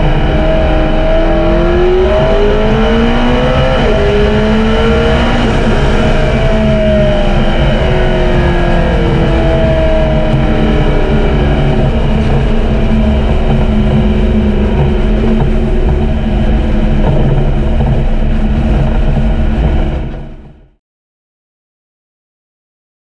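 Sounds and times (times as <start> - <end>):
sports car engine running loudly: 0.0 - 20.8.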